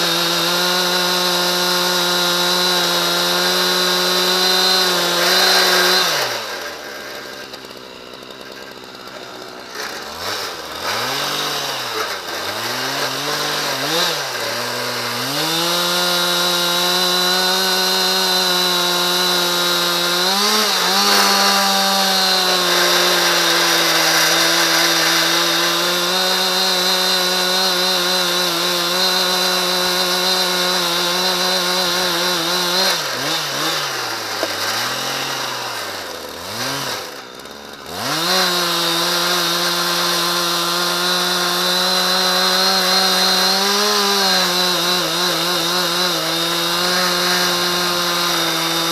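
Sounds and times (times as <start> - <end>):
chainsaw cutting log: 0.0 - 48.9.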